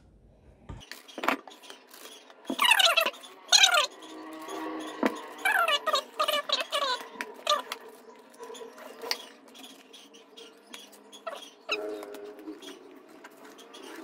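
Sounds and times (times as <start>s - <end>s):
spatula squeaks: 0.8s - 14.0s
spatula scraping meringue: 1.1s - 14.0s.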